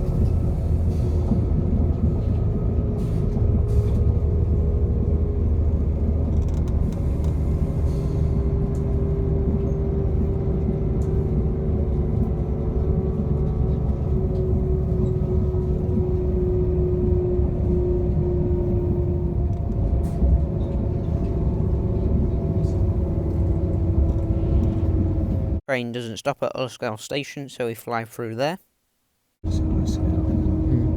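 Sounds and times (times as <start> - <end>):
train drive whine: 0.0 - 25.6, 29.4 - 30.9
train rumble: 0.0 - 25.6, 29.4 - 30.9.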